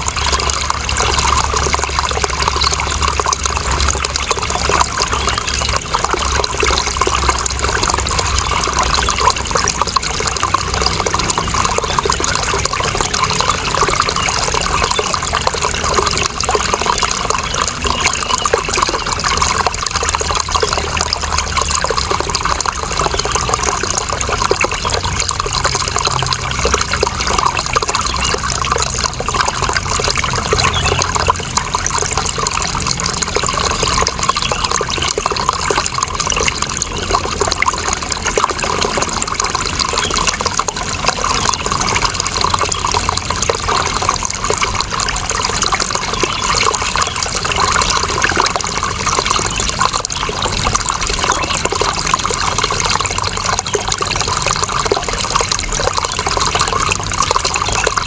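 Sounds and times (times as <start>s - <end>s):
running water flowing: 0.0s - 58.0s.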